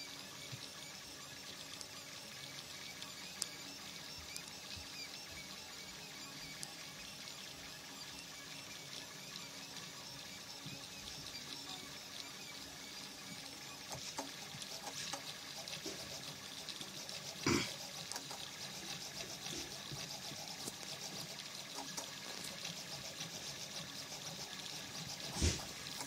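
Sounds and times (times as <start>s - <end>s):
three d printer motors whirring: 0.0s - 26.0s.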